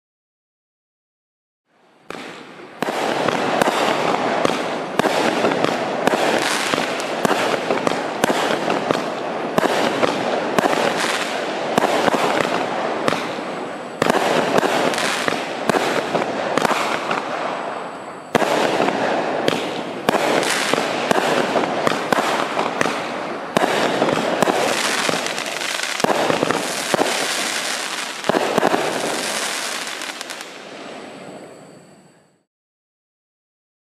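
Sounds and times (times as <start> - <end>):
fireworks bangs: 2.0 - 31.8.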